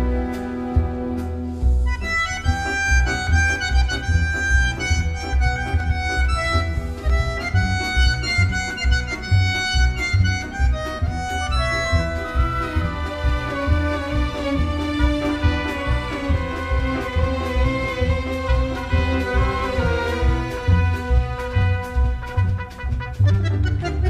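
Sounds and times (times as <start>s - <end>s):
bandoneon melody: 0.0s - 24.0s
pulsing low accompaniment: 0.0s - 24.0s.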